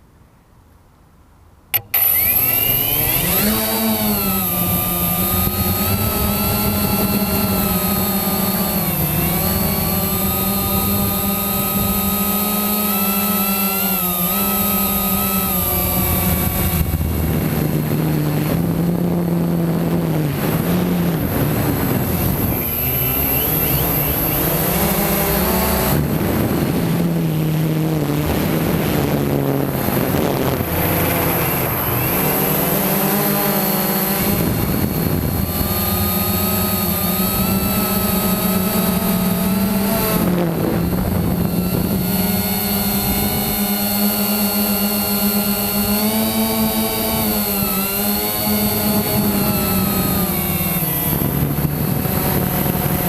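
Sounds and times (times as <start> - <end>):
motor start click: 1.7 - 19.0, 19.9 - 26.9, 29.8 - 53.0
high whine: 1.7 - 53.0
quadcopter motors whirring: 1.7 - 53.0.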